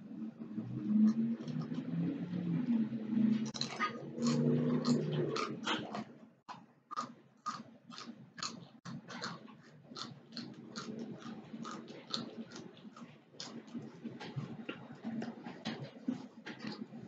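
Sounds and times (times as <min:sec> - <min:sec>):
person chewing crunchy food: 0:00.9 - 0:02.5, 0:03.4 - 0:17.0.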